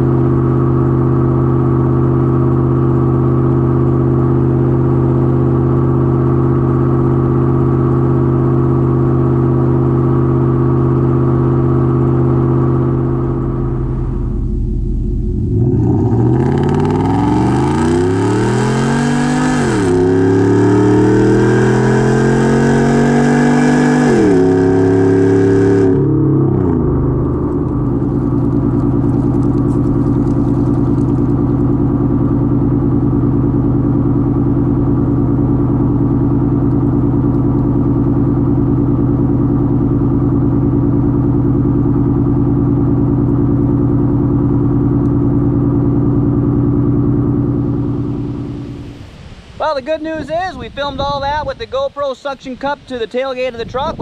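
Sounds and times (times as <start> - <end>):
truck exhaust accelerating: 0.0 - 52.0.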